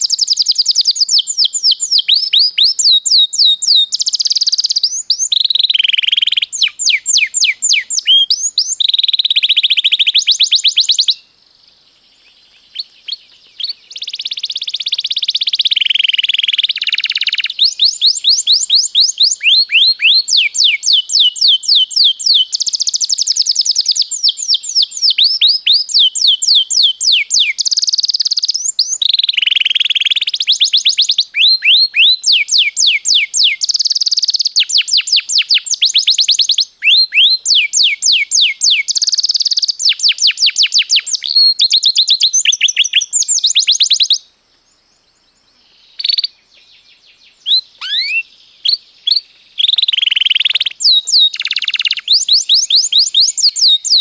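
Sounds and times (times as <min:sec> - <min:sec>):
canary singing trills: 0:00.0 - 0:11.3, 0:12.2 - 0:44.2, 0:45.5 - 0:54.0.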